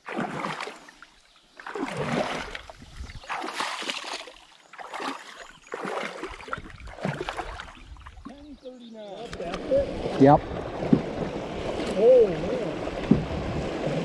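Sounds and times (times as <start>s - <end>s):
river water splashing: 0.0s - 14.0s.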